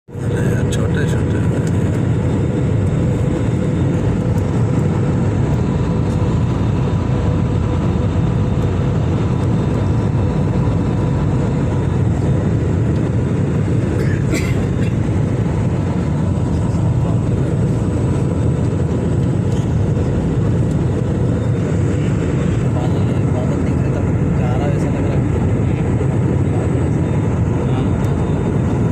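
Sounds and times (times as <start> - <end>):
engines and airflow rush: 0.1 - 28.9.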